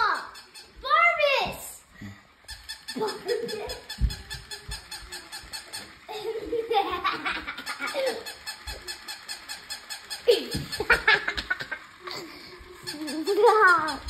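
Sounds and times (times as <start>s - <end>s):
toy motor and legs clicking: 0.0s - 14.0s.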